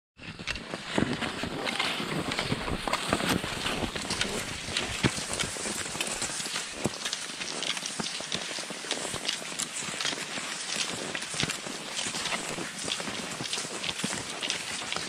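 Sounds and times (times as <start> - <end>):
ski poles clicking in snow: 0.2 - 15.0
skis swishing on snow: 0.2 - 15.0.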